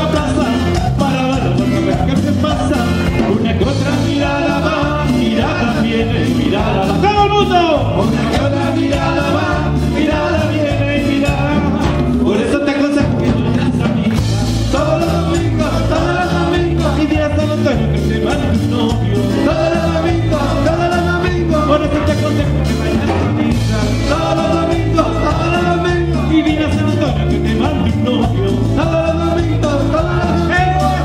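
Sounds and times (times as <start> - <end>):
latin dance band playing: 0.0 - 31.0
person singing: 0.0 - 31.0.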